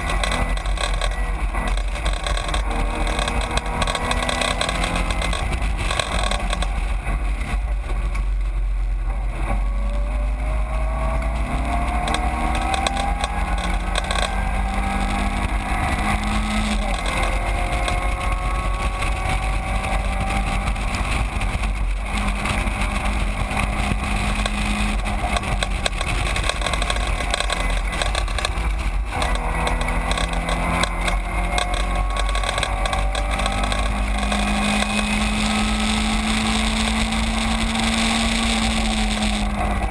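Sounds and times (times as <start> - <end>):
race car engine at speed: 0.0 - 39.9
steady low rumble: 0.0 - 39.9.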